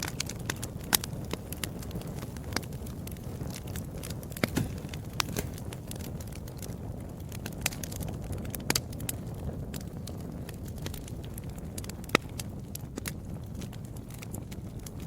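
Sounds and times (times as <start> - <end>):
low rumble of fire: 0.0 - 15.0
sharp snaps and pops: 0.0 - 15.0
wood fire crackling: 0.0 - 15.0.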